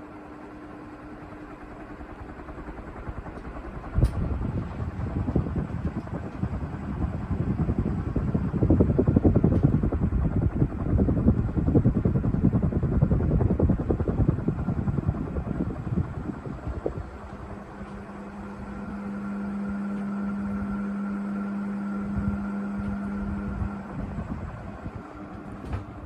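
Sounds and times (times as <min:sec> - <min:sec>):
ceiling fan air rushing: 0:00.0 - 0:26.0.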